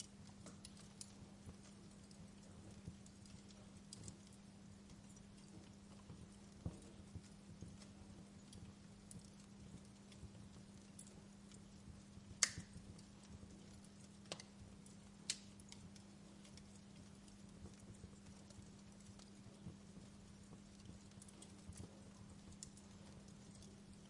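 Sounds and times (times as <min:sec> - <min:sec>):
steady low hum: 0:00.0 - 0:24.0
wood fire crackling and popping: 0:00.0 - 0:24.0.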